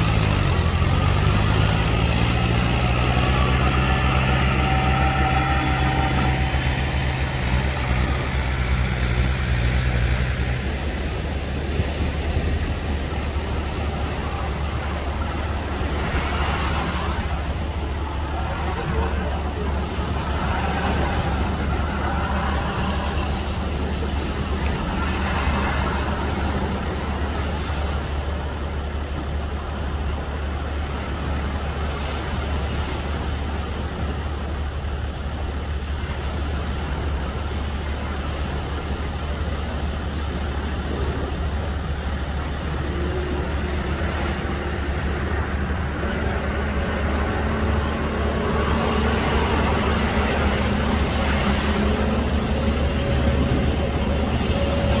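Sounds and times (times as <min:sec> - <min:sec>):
outboard motors idling: 0:00.0 - 0:55.0
waves: 0:00.0 - 0:55.0
wind: 0:00.0 - 0:55.0.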